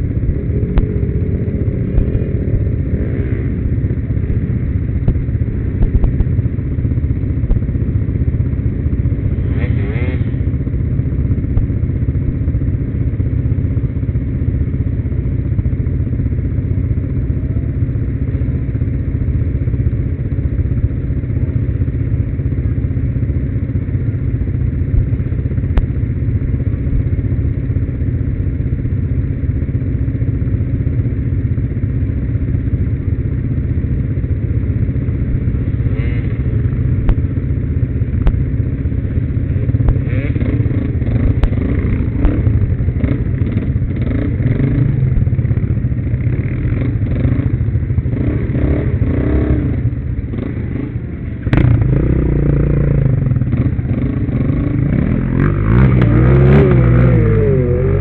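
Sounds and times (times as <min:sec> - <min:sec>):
quad bike engines idling: 0:00.0 - 0:58.0.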